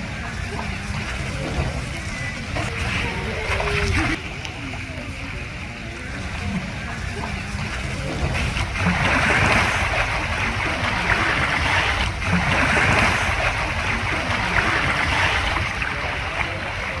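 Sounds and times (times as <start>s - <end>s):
water rushing and sloshing: 0.0s - 17.0s.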